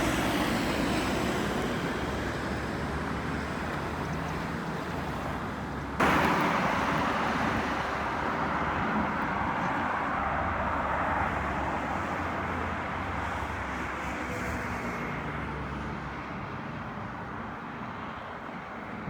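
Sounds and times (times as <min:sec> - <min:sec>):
passing road traffic hiss: 0:00.0 - 0:19.0.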